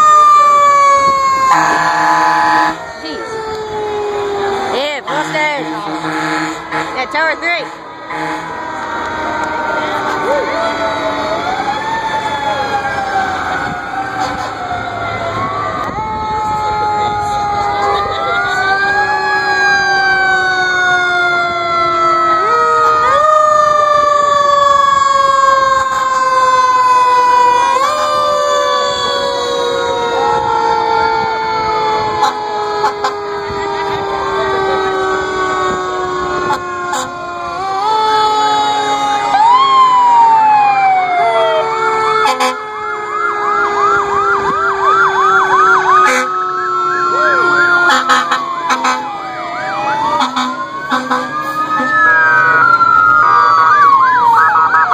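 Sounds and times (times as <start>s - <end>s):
fire engine sirens: 0.0s - 54.9s.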